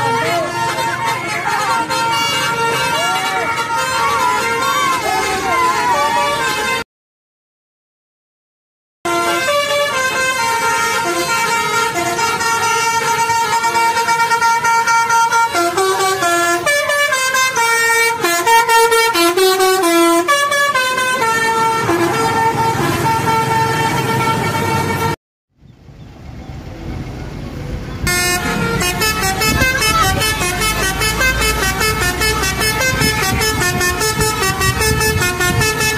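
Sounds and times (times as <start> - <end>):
bus horn playing a melody: 0.0 - 6.8, 9.1 - 25.2, 28.0 - 35.9.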